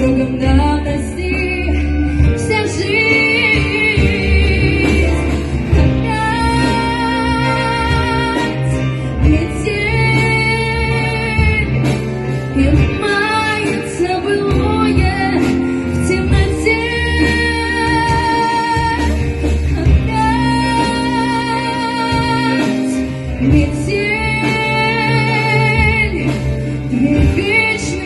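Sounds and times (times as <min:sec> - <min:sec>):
pop ballad instrumental music: 0:00.0 - 0:28.0.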